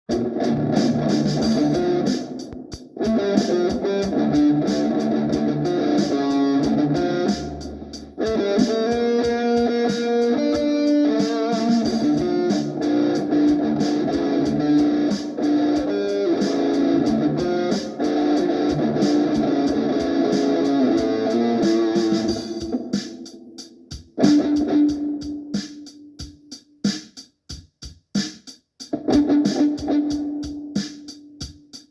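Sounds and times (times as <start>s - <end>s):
ticking beat: 0.1s - 31.9s.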